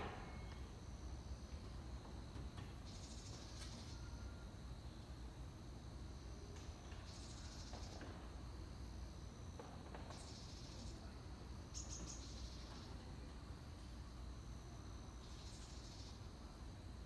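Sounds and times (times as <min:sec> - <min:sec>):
insect trills: 0:00.0 - 0:17.0.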